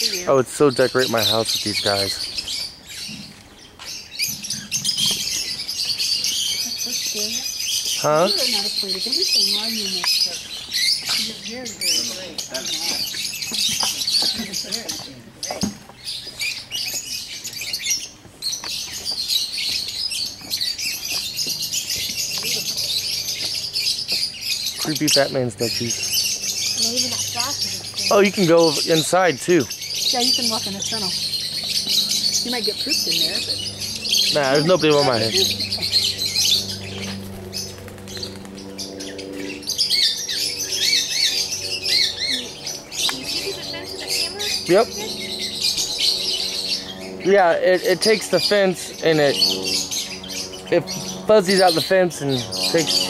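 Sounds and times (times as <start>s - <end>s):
parakeets chattering and chirping: 0.0s - 53.0s.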